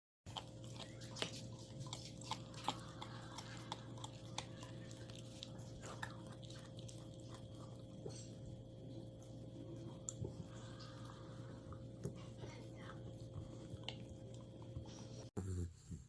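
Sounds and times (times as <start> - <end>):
dog chewing: 0.3 - 15.3
steady low hum: 0.3 - 16.0.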